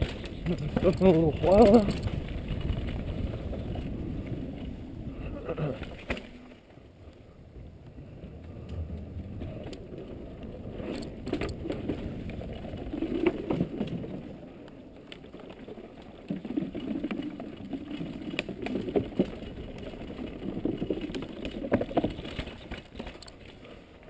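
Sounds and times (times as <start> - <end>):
wheels knocking on planks and rocks: 0.0 - 4.8, 8.7 - 23.7
mountain bike tyres rumbling: 0.0 - 24.0.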